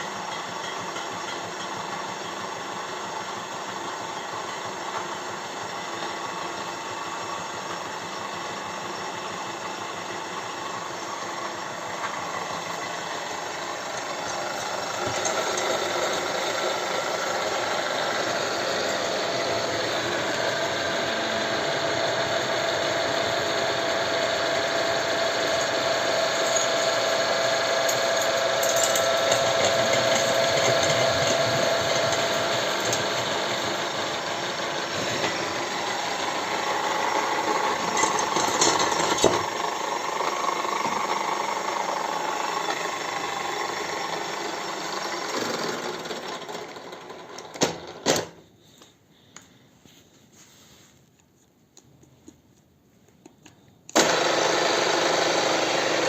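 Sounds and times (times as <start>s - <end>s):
drill press motor hum: 0.0s - 48.8s, 53.9s - 56.0s.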